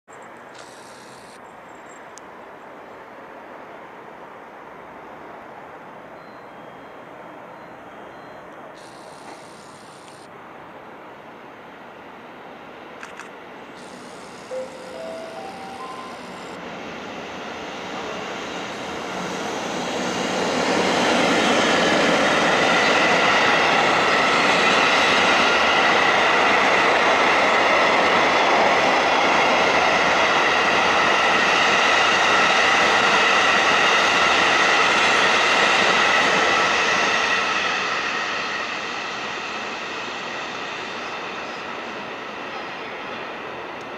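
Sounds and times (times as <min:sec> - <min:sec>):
train passing rumble: 0:06.9 - 0:43.9.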